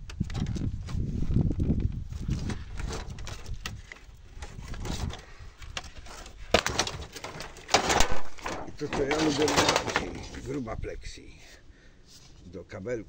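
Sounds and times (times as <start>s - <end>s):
clicks and rustles of handling: 0.0s - 10.7s.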